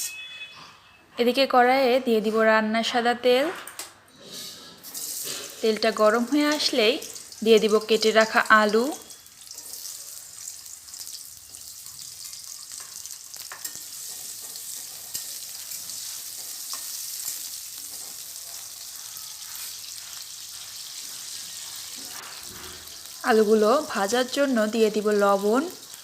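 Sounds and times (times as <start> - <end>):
potatoes sizzling in oil: 4.8 - 26.0.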